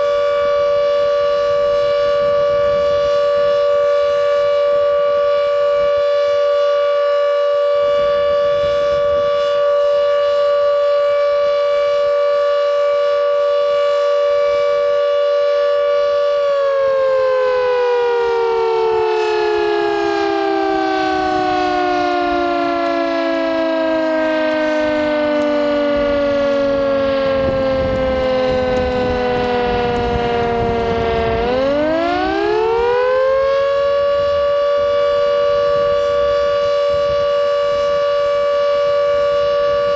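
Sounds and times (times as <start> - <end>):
electric siren two-note tone: 0.0 - 39.9.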